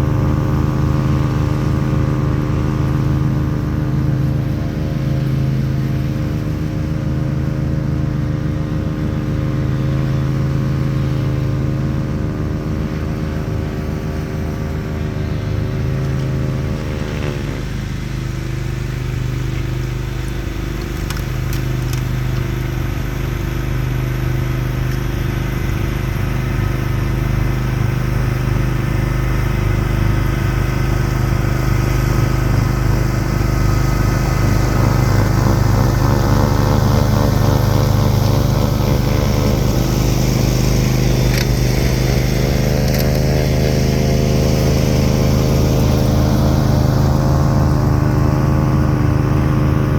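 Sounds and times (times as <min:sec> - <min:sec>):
lawn tractor engine running: 0:00.0 - 0:49.9.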